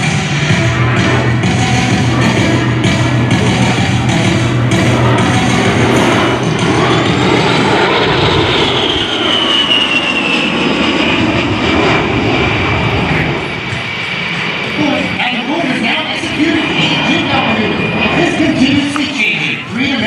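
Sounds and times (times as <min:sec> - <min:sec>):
jet engines flying past: 0:00.0 - 0:20.0.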